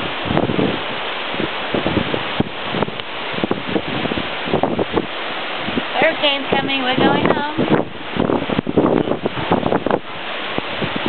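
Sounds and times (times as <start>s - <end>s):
strong gusty wind buffeting microphone: 0.0s - 11.0s.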